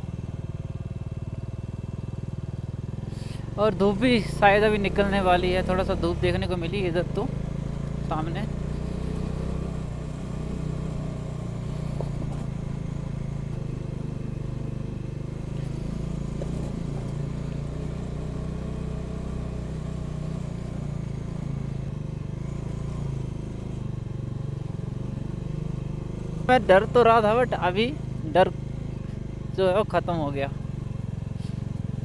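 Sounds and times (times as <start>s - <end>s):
motorcycle engine on gravel track: 0.0s - 32.0s.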